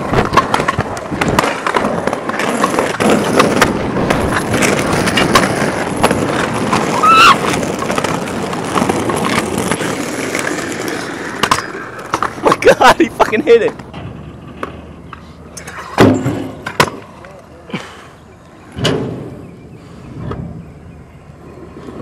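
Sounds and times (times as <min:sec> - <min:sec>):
scooter wheels rolling on concrete: 0:00.0 - 0:22.0.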